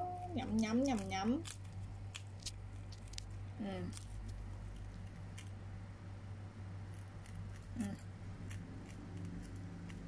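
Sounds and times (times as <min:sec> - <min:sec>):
steady low hum: 0:00.0 - 0:10.0
animal crunching food: 0:00.1 - 0:05.8, 0:06.8 - 0:10.0.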